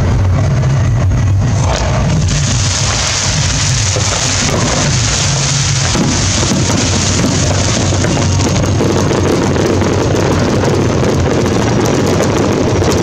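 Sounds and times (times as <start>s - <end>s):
low rumble of fireworks: 0.0s - 13.0s
fireworks crackling and hissing: 1.4s - 13.0s.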